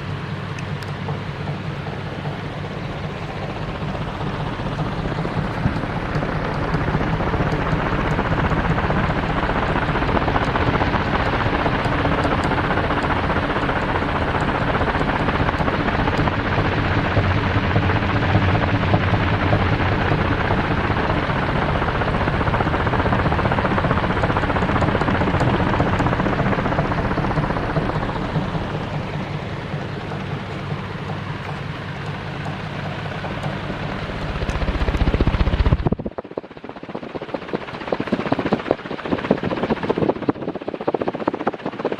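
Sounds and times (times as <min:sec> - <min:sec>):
low motor hum: 0:00.0 - 0:36.8
rush of fan air: 0:00.0 - 0:41.9.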